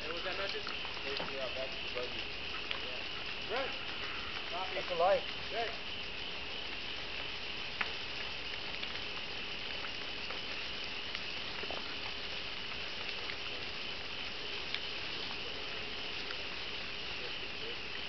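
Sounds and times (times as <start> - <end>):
burning brush crackling: 0.0 - 18.0
high steady chirring: 0.0 - 18.0.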